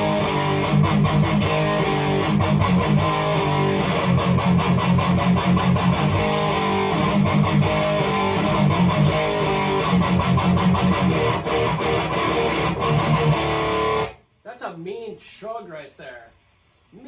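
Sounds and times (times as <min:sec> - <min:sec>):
distorted electric guitar chugging: 0:00.0 - 0:14.1.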